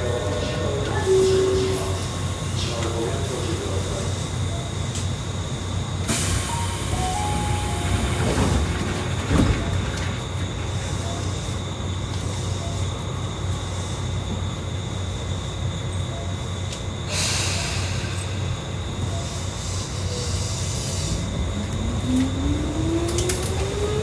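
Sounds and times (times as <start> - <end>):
train rumble and whine: 0.0 - 24.0.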